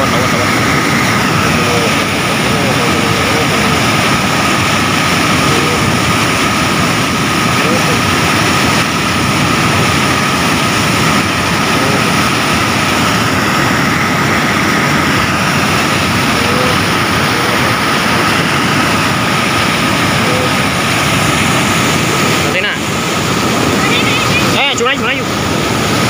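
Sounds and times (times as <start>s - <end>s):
floodwater rushing over weir: 0.0s - 26.0s.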